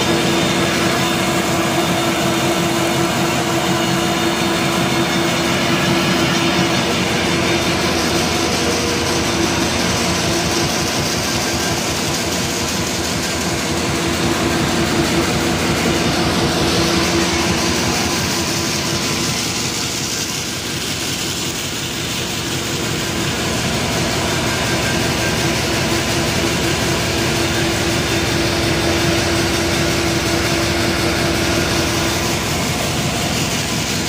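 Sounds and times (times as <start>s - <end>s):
paper bag machine running: 0.0s - 34.0s.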